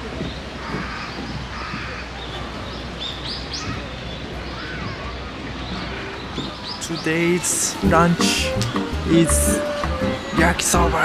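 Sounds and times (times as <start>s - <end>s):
steady outdoor background: 0.0s - 11.0s
birds calling: 0.2s - 11.0s.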